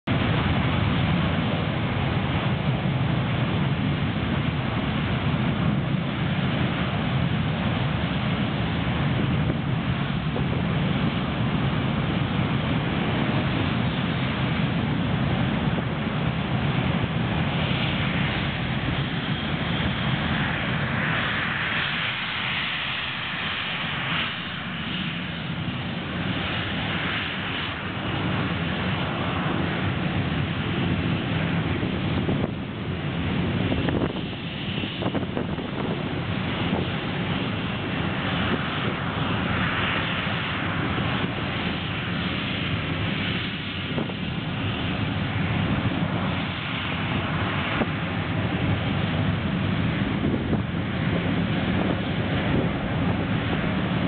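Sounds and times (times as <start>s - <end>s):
high-pitched engine whine: 0.0s - 54.0s
jet engines running: 0.0s - 54.0s.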